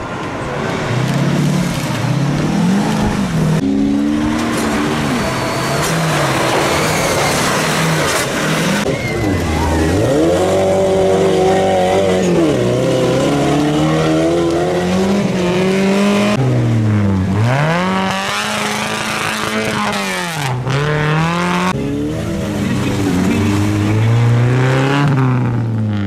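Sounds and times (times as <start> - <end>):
off-road engines revving: 0.0 - 26.0.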